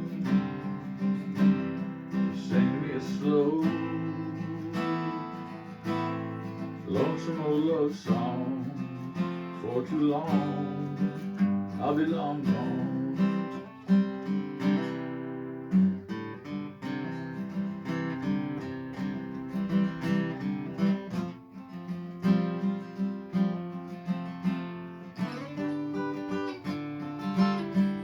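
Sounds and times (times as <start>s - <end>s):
acoustic guitar strummed and picked: 0.0s - 28.0s.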